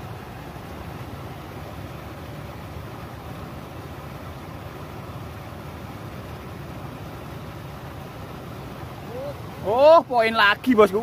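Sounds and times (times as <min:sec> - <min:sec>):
river rushing through rapids: 0:00.0 - 0:11.0.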